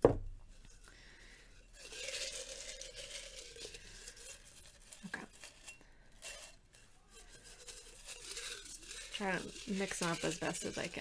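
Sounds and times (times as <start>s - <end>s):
paper slips rustling in a jar: 1.5s - 11.0s.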